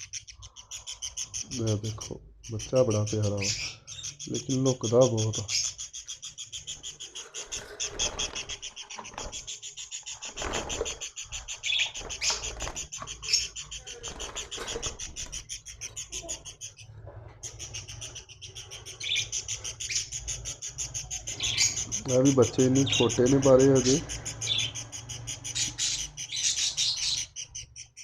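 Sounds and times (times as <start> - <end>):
parrots chirping rapidly: 0.0 - 28.0.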